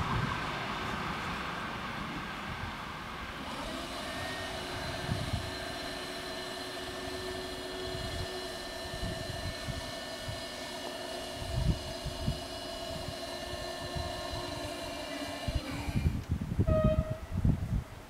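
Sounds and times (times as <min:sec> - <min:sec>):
electric barrier drives whining: 0:02.8 - 0:17.3.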